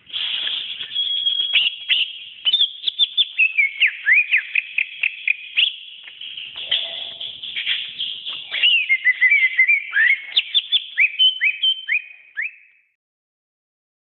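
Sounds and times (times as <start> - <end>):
bird singing whistled notes: 0.0 - 13.0.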